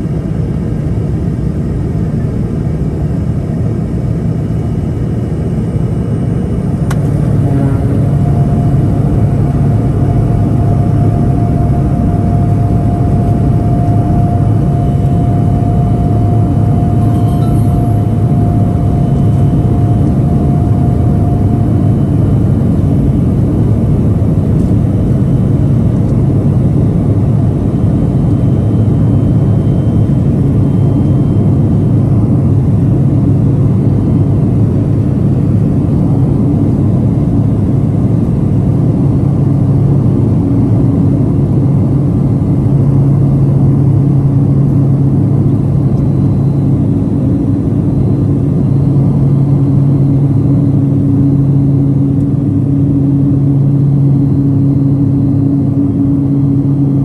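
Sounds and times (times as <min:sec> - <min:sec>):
turboprop engine drone in cabin: 0:00.0 - 0:57.0.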